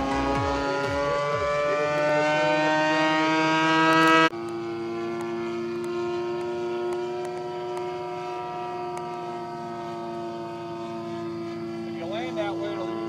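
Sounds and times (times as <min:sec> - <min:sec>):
model plane engine flying overhead: 0:00.0 - 0:13.0.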